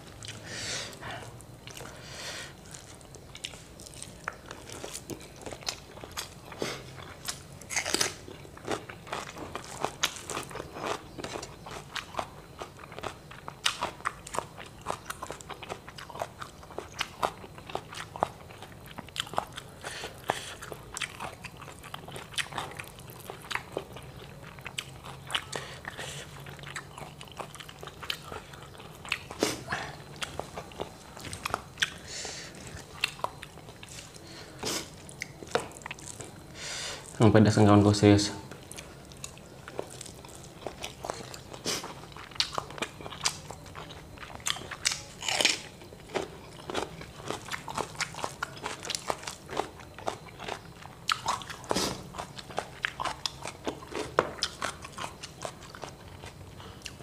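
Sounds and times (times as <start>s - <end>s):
chewing crisp fried fish: 0.0s - 37.2s, 38.5s - 57.0s.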